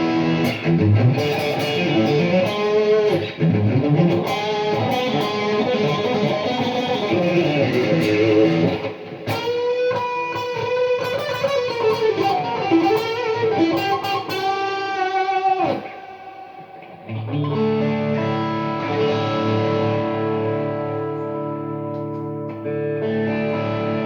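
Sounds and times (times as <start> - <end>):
clean electric guitar lead: 0.0 - 24.0
electric guitar chord ringing: 0.0 - 24.0.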